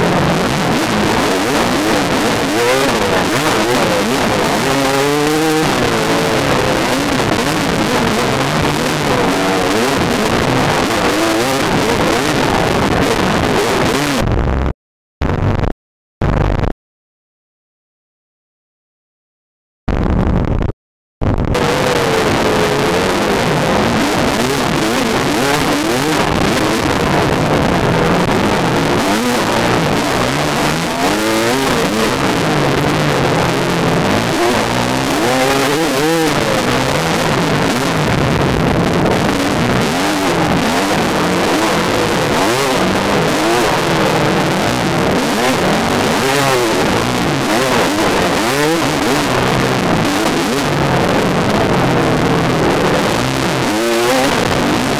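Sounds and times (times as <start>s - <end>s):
dirt bike engine revving: 0.0s - 14.3s, 21.6s - 54.9s
rushing noise: 0.0s - 14.3s, 21.3s - 54.9s.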